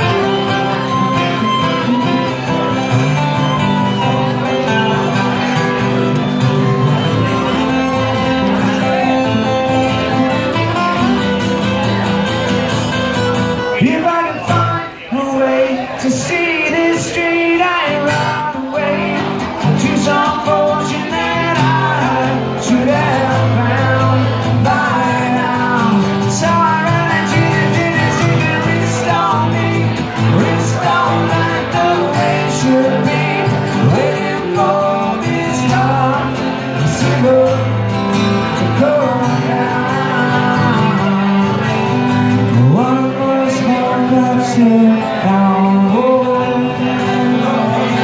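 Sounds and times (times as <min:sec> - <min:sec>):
acoustic band playing: 0:00.0 - 0:48.0
guitar: 0:00.0 - 0:48.0
person singing: 0:00.0 - 0:48.0.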